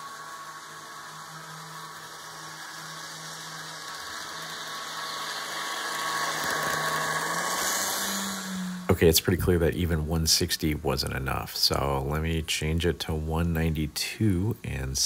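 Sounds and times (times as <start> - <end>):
model train motor hum: 0.0 - 15.0
wheels running on rails: 0.0 - 15.0.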